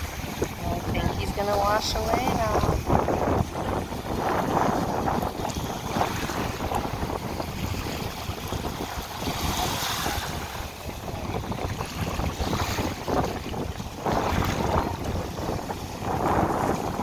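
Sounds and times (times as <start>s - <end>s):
small waves lapping on sand: 0.0s - 17.0s
wind buffeting microphone: 0.0s - 17.0s.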